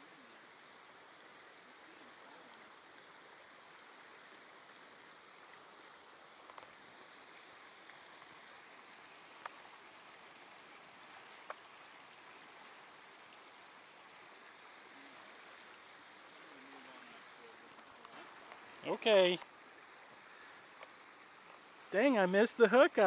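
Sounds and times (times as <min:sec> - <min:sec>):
creek flowing: 0:00.0 - 0:23.0.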